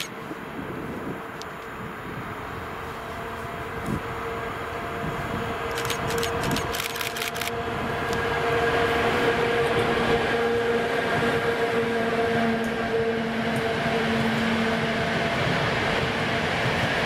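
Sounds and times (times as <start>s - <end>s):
locomotive whine: 0.0s - 17.0s
train wheels rumbling on rails: 0.0s - 17.0s.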